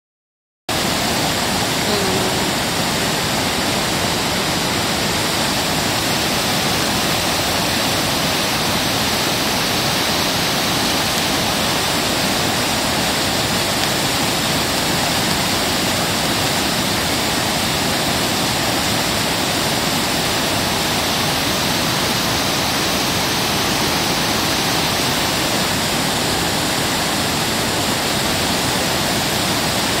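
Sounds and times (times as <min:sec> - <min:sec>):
water rushing over weir: 0:00.7 - 0:30.0.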